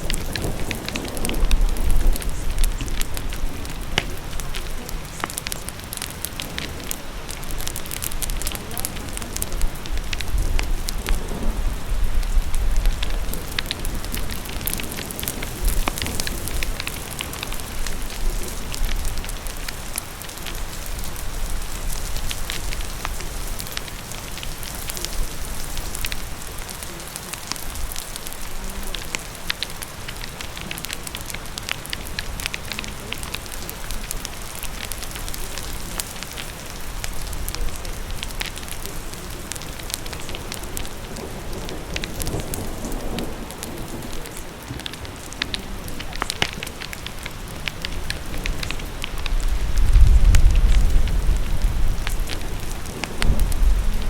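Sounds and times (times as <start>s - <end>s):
fire crackling and popping: 0.0s - 54.0s
rain hissing: 0.0s - 54.0s.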